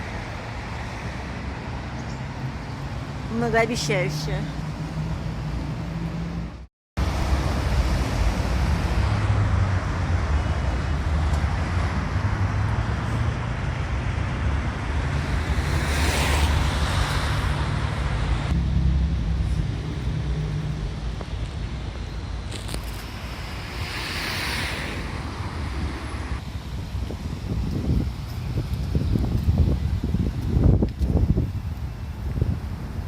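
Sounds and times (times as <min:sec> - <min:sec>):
gusty wind buffeting microphone: 0:04.7 - 0:33.0.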